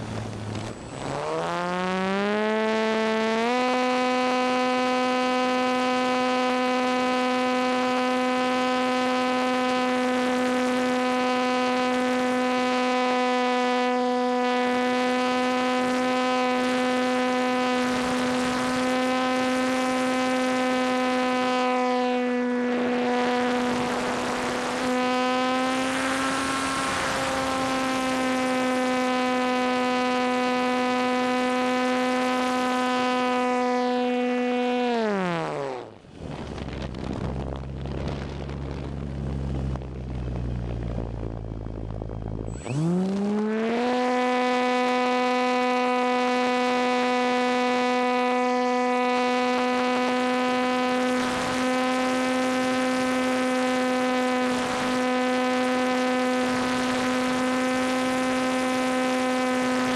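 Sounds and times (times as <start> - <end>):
model airplane motor humming: 0.0 - 59.9.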